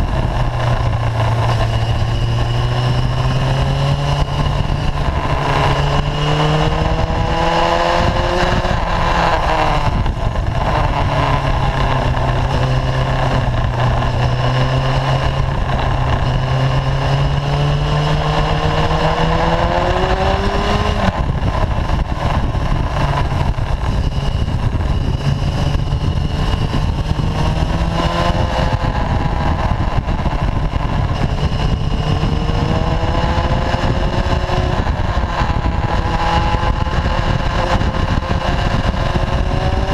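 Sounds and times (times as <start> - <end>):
motorcycle engine revving: 0.0 - 39.9
wind rushing on microphone: 0.0 - 39.9.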